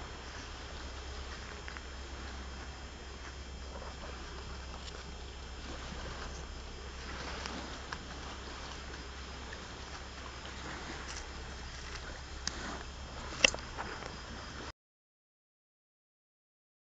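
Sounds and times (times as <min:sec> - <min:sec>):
low steady hum: 0:00.0 - 0:14.7.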